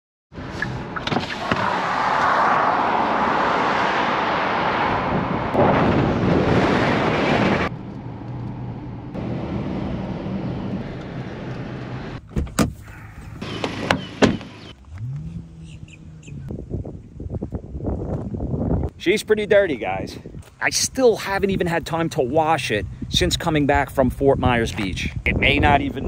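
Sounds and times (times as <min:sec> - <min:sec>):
road and wind noise of driving: 0:00.3 - 0:26.0.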